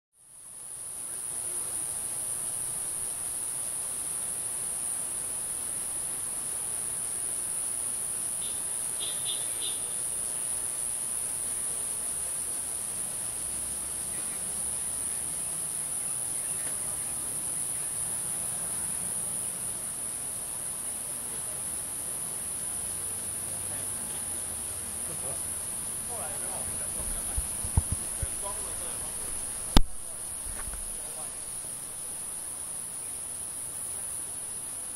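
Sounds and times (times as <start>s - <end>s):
cicada buzzing drone: 0.3s - 34.9s.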